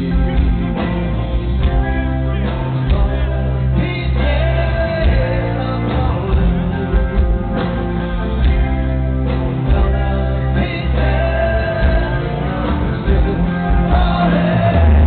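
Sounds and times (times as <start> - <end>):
bass guitar: 0.0 - 15.0
electric guitar: 0.0 - 15.0
man singing lead: 0.0 - 15.0.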